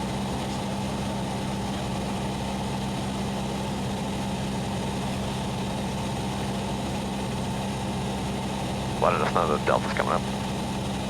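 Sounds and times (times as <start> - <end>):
airplane engine and propeller drone: 0.0 - 11.0.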